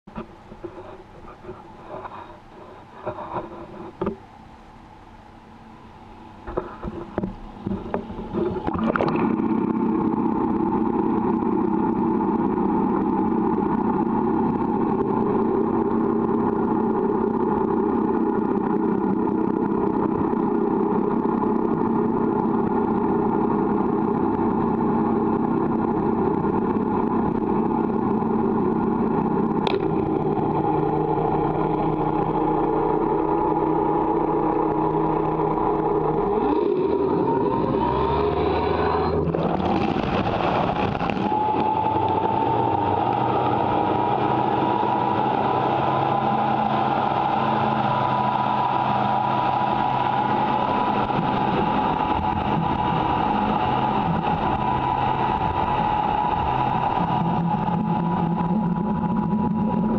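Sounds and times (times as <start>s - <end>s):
underwater outboard motor drone: 0.1s - 59.9s.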